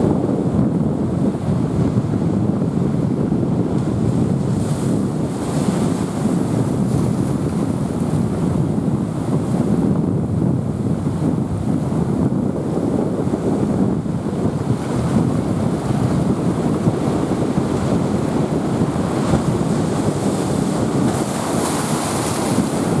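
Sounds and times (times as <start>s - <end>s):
heavy surf waves: 0.0s - 23.0s
wind buffeting microphone: 0.0s - 23.0s.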